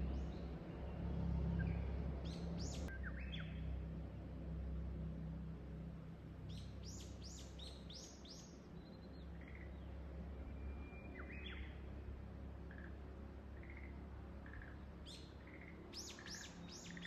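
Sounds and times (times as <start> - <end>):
wild birds singing: 0.0 - 3.9, 6.4 - 11.9, 12.6 - 17.0.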